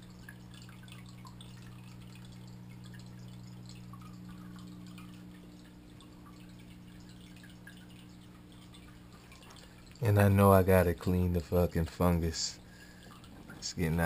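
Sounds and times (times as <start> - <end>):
low hum of tank equipment: 0.0 - 14.0
water dripping and trickling: 0.0 - 14.0.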